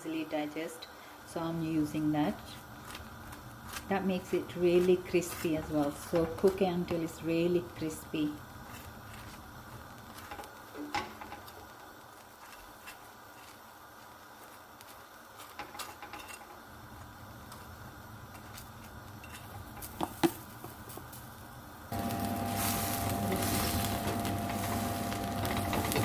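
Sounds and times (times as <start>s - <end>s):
flatbread sizzling on a griddle: 1.3s - 26.0s.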